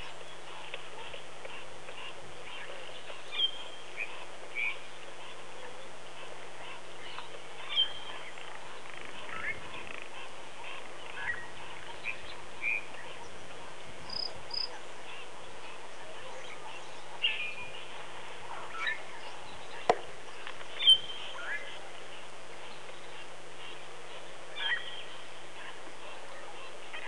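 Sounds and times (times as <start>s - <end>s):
birds chirping: 0.0s - 27.0s
steady background hiss: 0.0s - 27.0s.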